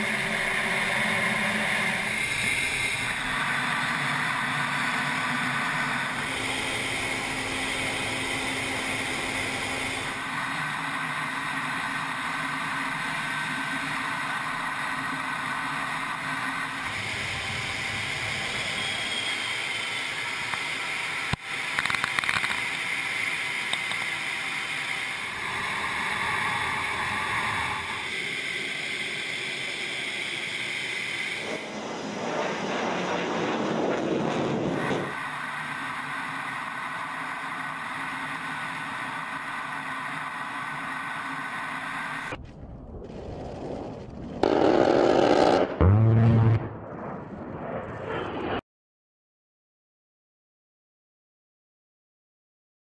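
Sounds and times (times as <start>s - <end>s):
aircraft engine noise: 0.0s - 42.4s.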